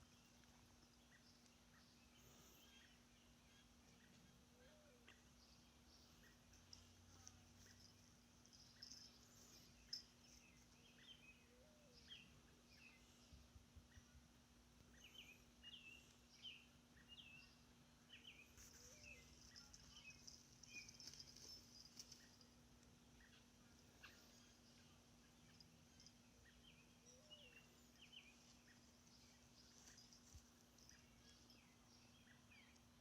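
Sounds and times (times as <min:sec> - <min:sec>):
birds chirping: 0:00.0 - 0:14.2, 0:14.8 - 0:33.0
low steady hum: 0:00.0 - 0:33.0.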